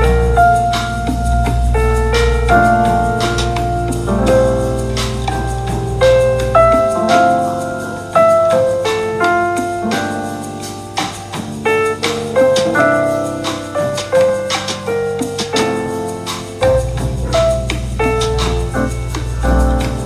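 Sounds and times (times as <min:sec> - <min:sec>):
lounge jazz music: 0:00.0 - 0:20.0.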